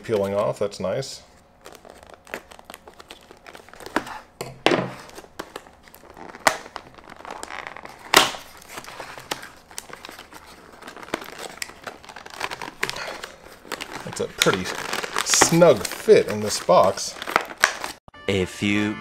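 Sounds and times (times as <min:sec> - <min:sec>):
cardboard packaging crinkling and tearing: 0:01.5 - 0:04.4, 0:05.0 - 0:18.0.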